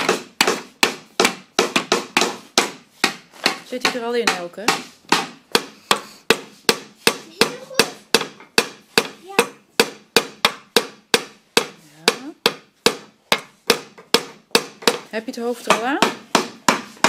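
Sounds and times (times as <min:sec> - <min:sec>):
hammer knocking nail into wood: 0:00.0 - 0:15.1, 0:15.7 - 0:17.0.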